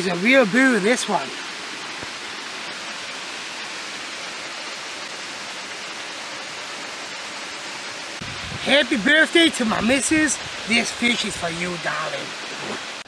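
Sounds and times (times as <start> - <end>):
water flowing in a shallow creek: 0.0 - 13.0.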